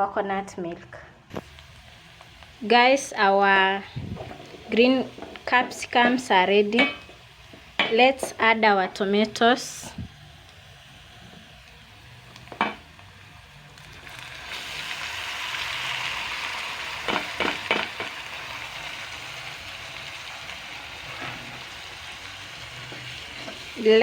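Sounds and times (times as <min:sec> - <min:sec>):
tomatoes sizzling in a pan: 0:01.3 - 0:24.0.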